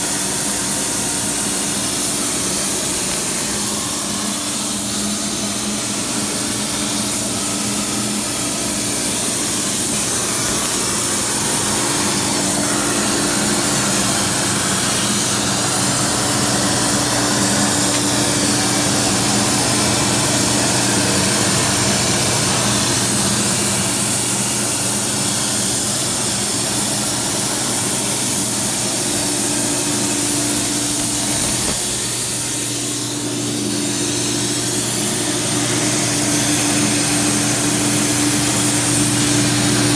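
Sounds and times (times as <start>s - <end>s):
cutting torch hissing: 0.0s - 39.9s.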